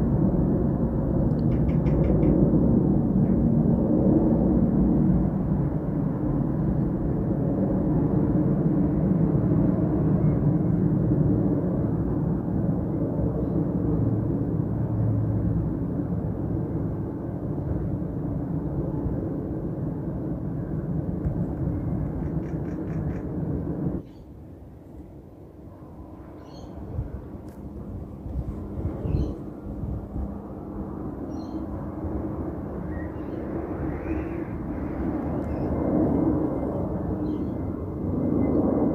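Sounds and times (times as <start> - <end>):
aircraft engine passing: 0.0 - 38.9.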